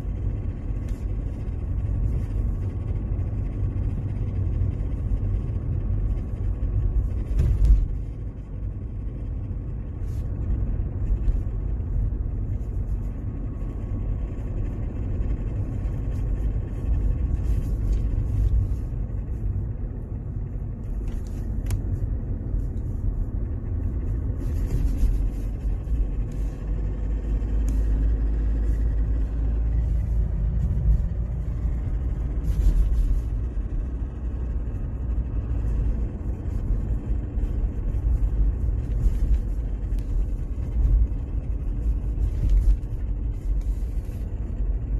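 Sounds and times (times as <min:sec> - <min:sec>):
car engine low rumble: 0:00.0 - 0:44.9.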